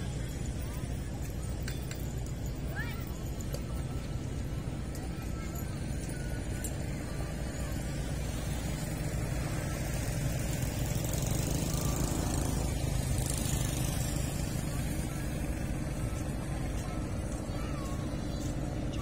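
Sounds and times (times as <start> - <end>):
low engine rumble: 0.0 - 19.0.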